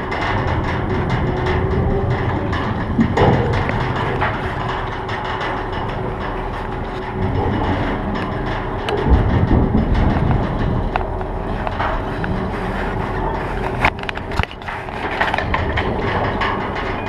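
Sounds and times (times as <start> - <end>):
heavy machinery rumble: 0.0 - 17.0
logs knocking and scraping: 0.0 - 17.0.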